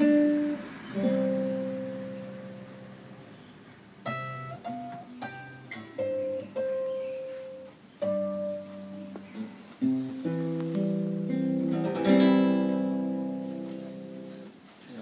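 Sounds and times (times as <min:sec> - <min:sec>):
classical guitar fingerstyle: 0:00.0 - 0:14.7.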